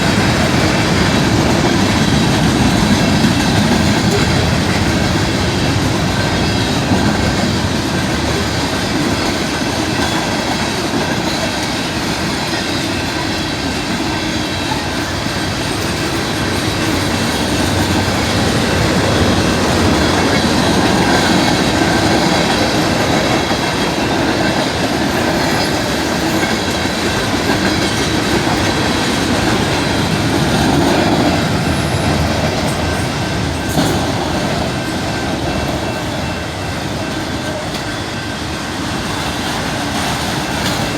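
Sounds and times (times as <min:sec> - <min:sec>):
train wheels rumbling over rails: 0:00.0 - 0:40.9.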